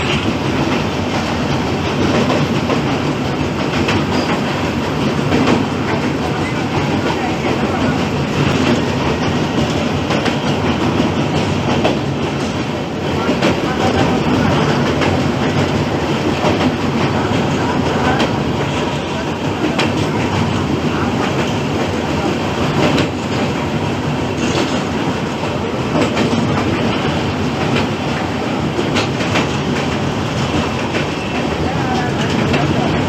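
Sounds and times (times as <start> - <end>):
train coach rumbling: 0.0 - 33.0.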